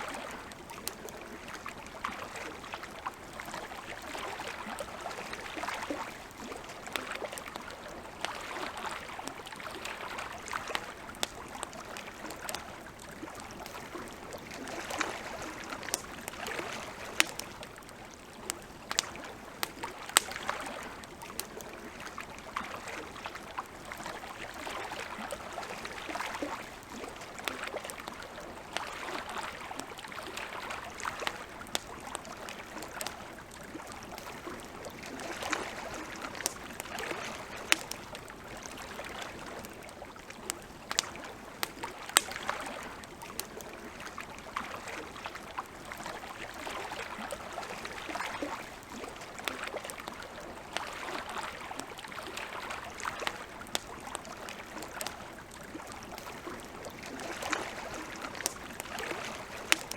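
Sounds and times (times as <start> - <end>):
lake water lapping: 0.0 - 59.9
campfire crackling and popping: 0.1 - 59.9.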